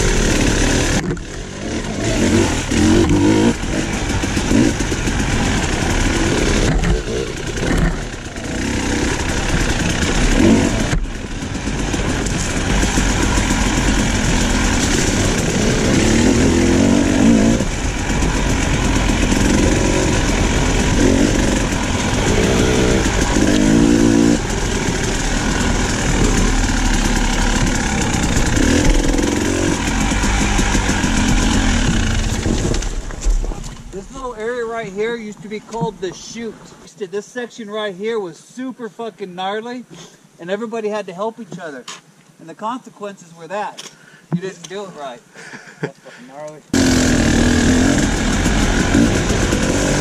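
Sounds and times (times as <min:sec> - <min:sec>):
dirt bike engine under load: 0:00.0 - 0:36.7, 0:46.5 - 0:50.0.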